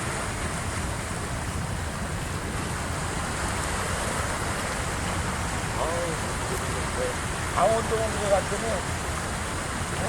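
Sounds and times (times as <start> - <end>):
sea waves washing in: 0.0 - 10.0.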